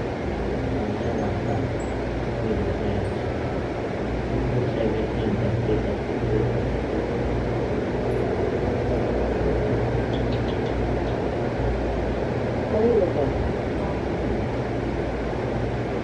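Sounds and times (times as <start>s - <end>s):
electric fan droning: 0.0s - 16.0s.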